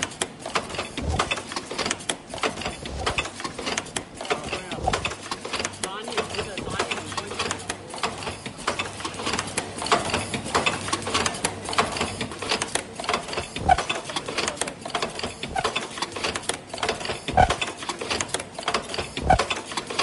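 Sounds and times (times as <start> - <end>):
heavy machine thumps: 0.0 - 19.6
machine clattering: 0.0 - 20.0.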